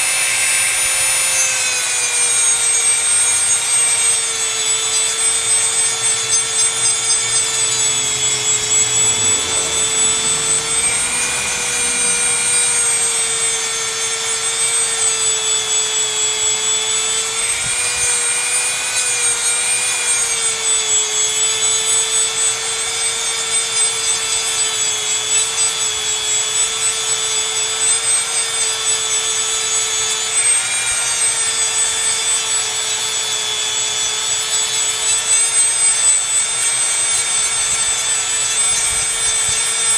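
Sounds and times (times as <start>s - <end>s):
bit grinding paint: 0.0s - 39.9s
rotary tool whining: 0.0s - 39.9s.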